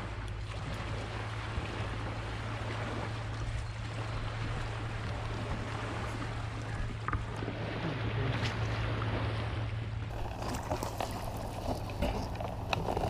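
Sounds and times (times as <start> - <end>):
constant low hum: 0.0 - 13.0
wind and water noise: 0.0 - 13.0.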